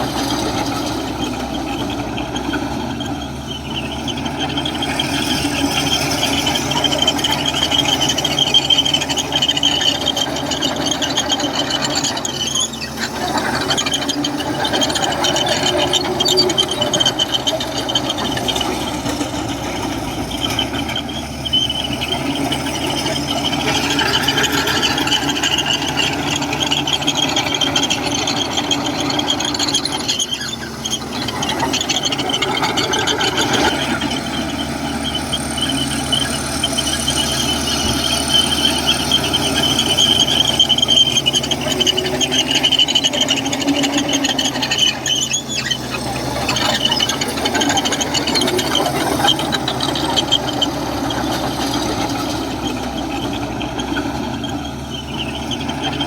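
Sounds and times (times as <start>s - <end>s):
bulldozer diesel engine: 0.0s - 56.0s
high metallic squeal: 0.0s - 56.0s.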